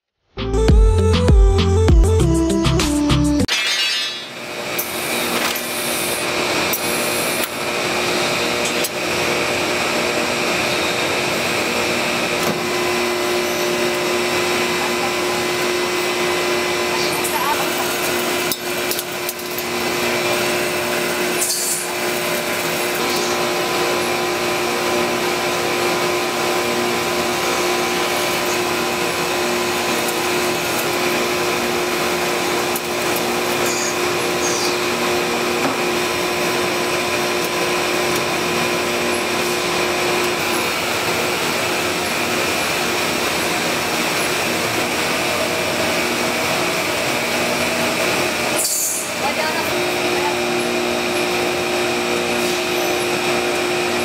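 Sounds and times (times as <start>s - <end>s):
lathe machine drone: 4.1s - 54.0s.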